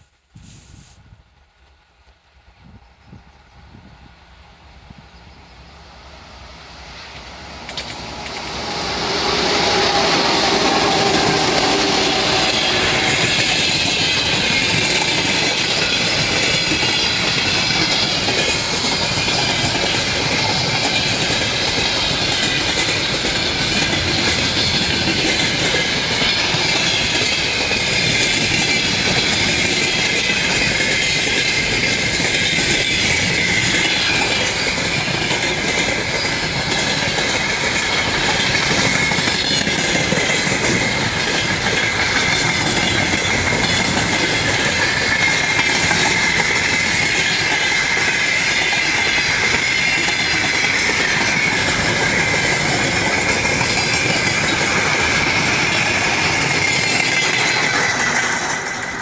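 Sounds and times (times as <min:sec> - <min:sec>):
railway wagons rumbling past: 0:01.3 - 0:59.0
wheels screeching on rails: 0:03.0 - 0:59.0.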